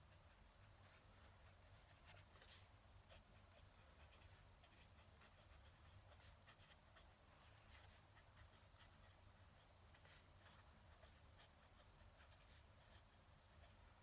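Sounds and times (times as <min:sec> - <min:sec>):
fountain pen scratching on paper: 0:00.0 - 0:14.0
low steady hum: 0:00.0 - 0:14.0.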